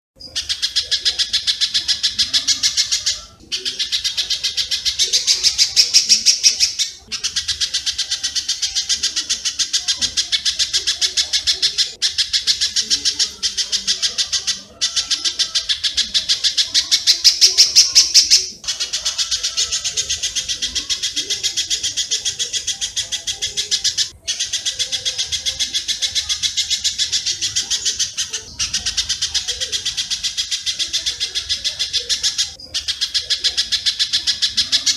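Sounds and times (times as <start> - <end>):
high repeated bird chirps: 0.2 - 34.9.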